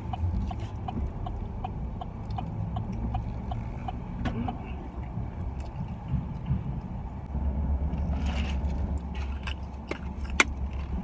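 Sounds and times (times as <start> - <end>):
car rumble inside cabin: 0.0 - 11.0.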